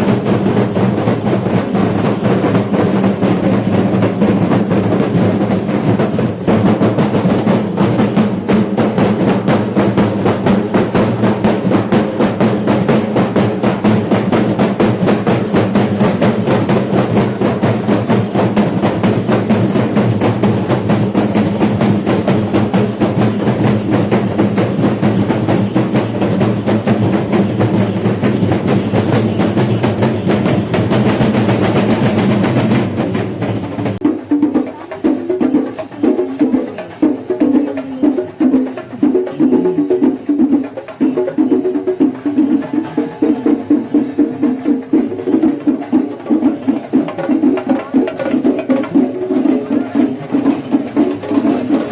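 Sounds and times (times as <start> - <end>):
drums beating fast: 0.0 - 51.9.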